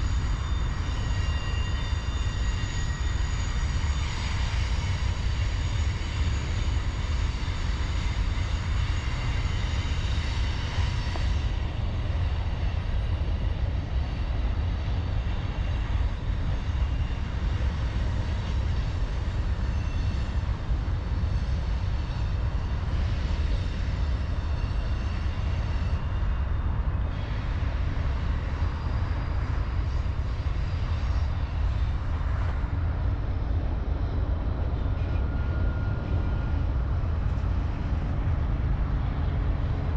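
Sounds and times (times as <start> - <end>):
diesel locomotives rumbling: 0.0 - 39.9.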